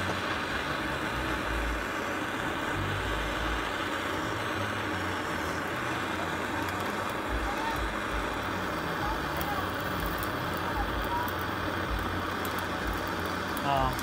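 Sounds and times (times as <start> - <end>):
gas torch burning: 0.0 - 14.0.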